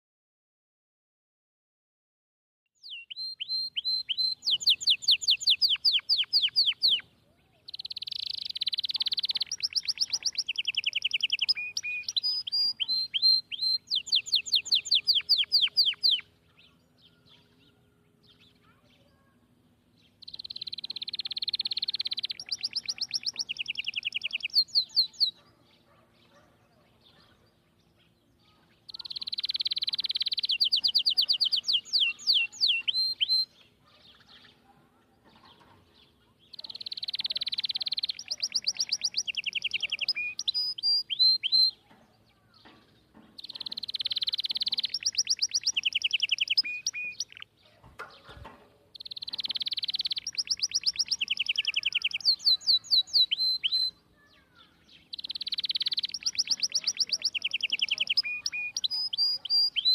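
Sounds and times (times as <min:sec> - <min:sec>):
songbird singing: 0:02.8 - 0:59.9.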